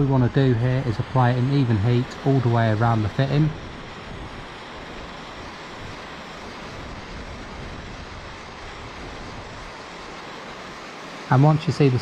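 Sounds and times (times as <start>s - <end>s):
blowtorch flame hissing: 0.0s - 12.0s.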